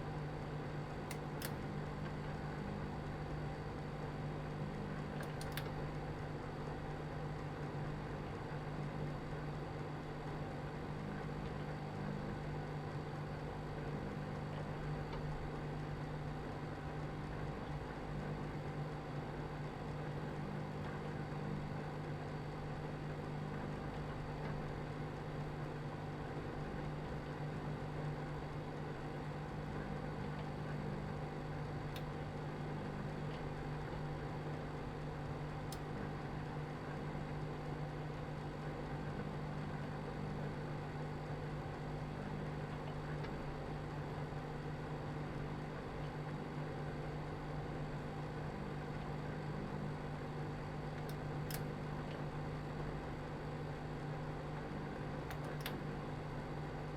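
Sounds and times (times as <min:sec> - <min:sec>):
microwave oven humming: 0:00.0 - 0:56.9.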